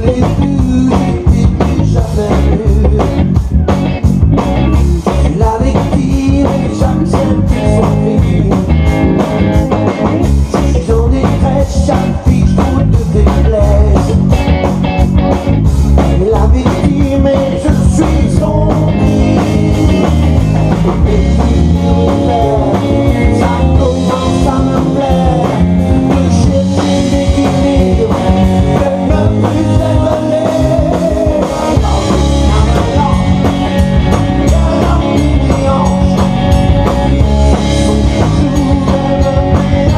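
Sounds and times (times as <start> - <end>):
bass guitar: 0.0 - 39.9
drum kit steady beat: 0.0 - 39.9
electric guitar: 0.0 - 39.9.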